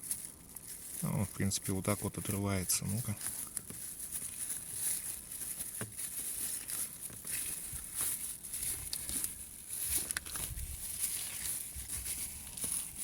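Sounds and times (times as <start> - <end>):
cellophane crinkling and tearing: 0.0 - 13.0.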